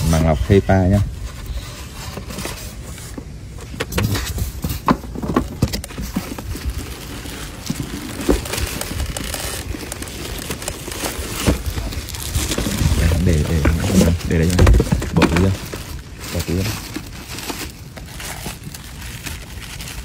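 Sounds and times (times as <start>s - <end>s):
packaging rustling and scraping: 0.0s - 20.0s
steady low rumble: 2.9s - 20.0s.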